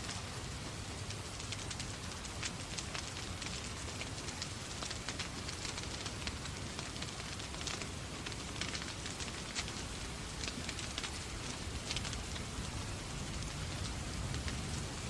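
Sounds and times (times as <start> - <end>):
falling rain hiss: 0.0 - 15.0
log fire crackling and popping: 0.0 - 15.0.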